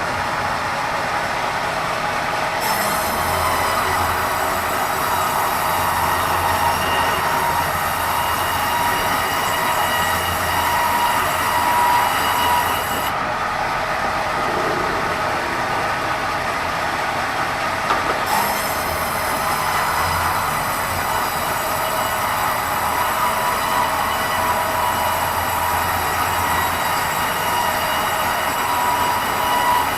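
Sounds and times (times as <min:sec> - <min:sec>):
band saw whining: 0:02.5 - 0:29.9.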